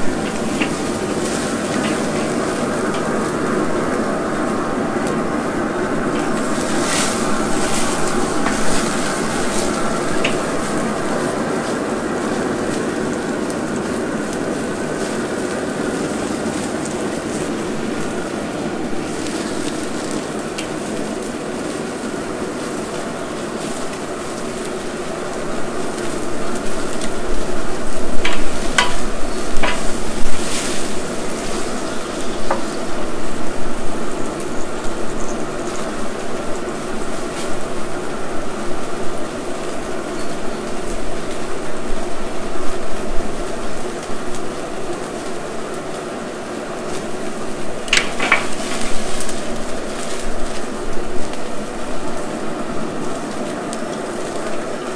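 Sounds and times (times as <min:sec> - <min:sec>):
burning fat crackling and sizzling: 0:00.0 - 0:54.9.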